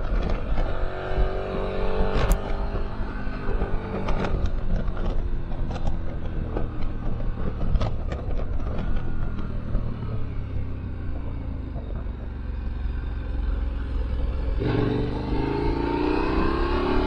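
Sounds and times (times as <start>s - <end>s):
motorcycle engine running: 0.0s - 17.0s
wind rumble on microphone: 0.0s - 17.0s.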